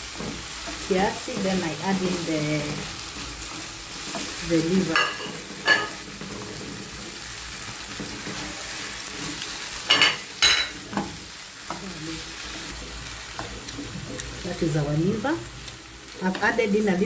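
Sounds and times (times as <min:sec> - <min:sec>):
liver sizzling in a pan: 0:00.0 - 0:17.0.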